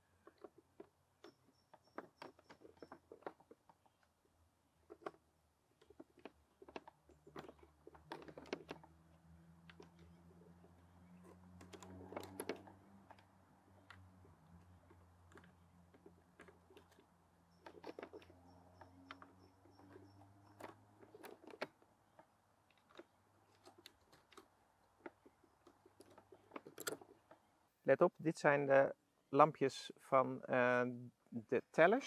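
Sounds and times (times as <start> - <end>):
plastic parts clicking and tapping: 0.0 - 27.5.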